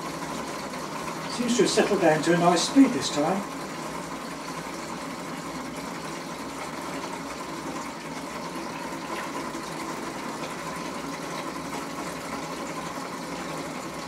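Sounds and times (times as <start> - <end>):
spring churning water: 0.0 - 14.0.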